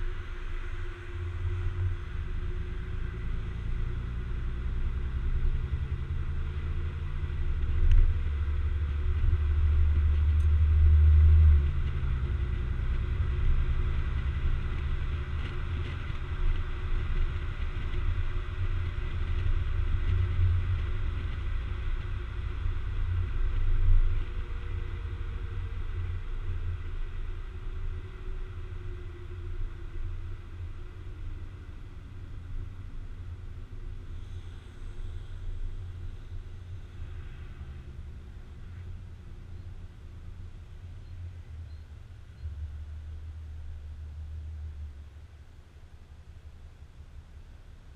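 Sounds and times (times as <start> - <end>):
low car exhaust rumble: 0.0 - 47.9.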